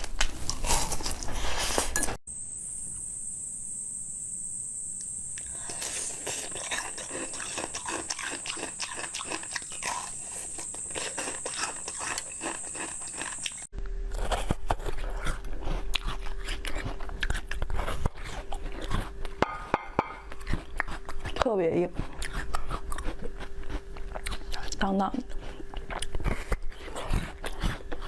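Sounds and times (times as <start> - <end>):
crunchy chewing: 0.0 - 2.2, 5.4 - 28.0
steady low hum: 0.0 - 28.0.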